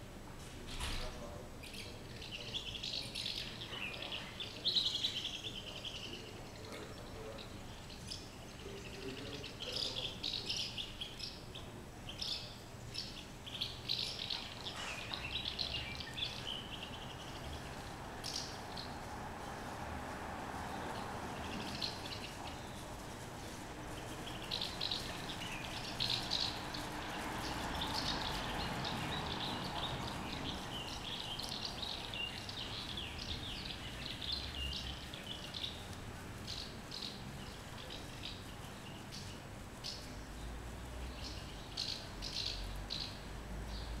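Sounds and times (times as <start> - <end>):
house martins chirping: 0.8 - 44.0.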